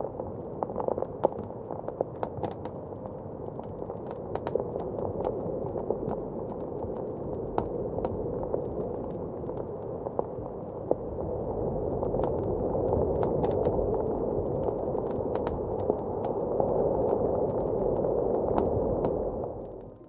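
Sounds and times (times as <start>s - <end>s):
blizzard wind: 0.0s - 20.0s
wood fire crackling and popping: 0.0s - 20.0s.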